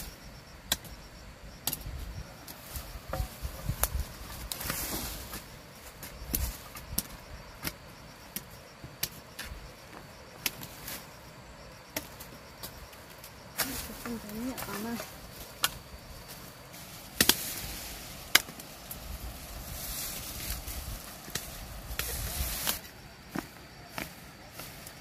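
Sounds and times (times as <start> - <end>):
faint insect chirring: 0.0 - 25.0.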